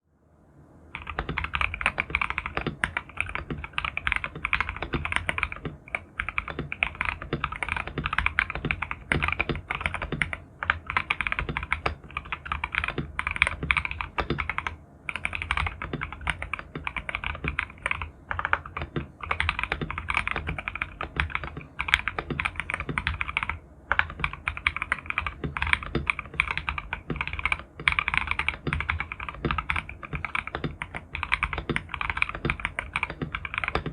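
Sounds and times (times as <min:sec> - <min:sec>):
mechanical keyboard typing: 0:01.0 - 0:33.9.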